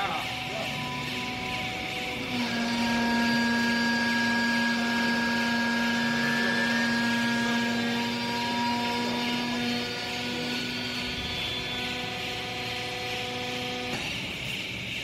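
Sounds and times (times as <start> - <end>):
hydraulic motor and pump hum: 0.0 - 15.0.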